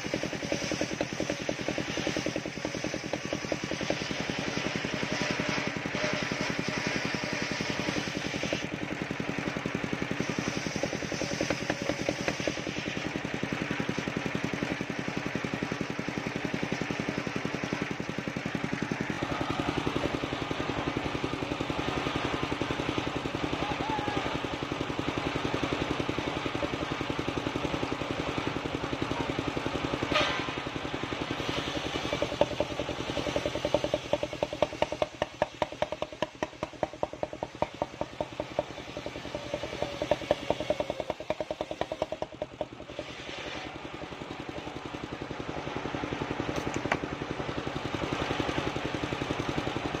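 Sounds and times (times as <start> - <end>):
sawmill engine running: 0.0 - 50.0.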